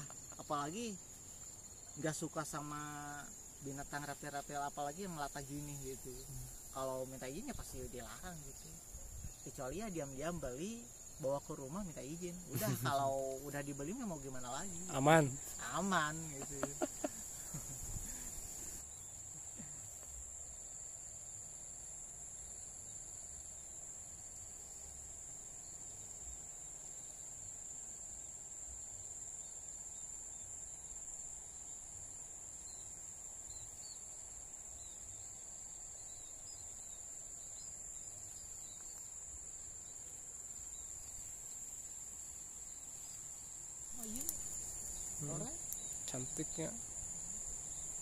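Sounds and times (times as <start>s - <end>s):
crickets trilling: 0.0s - 48.0s.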